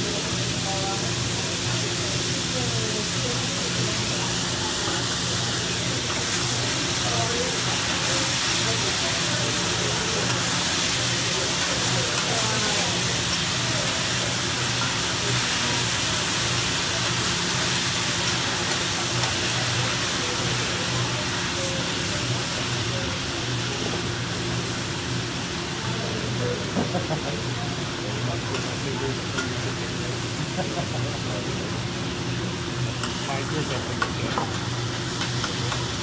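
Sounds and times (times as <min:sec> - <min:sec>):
vegetables sizzling on a griddle: 0:00.0 - 0:36.0.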